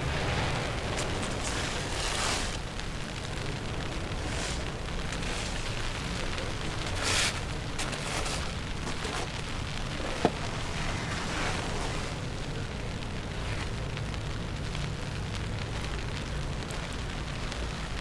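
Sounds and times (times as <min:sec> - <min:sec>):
low street noise rumble: 0:00.0 - 0:18.0.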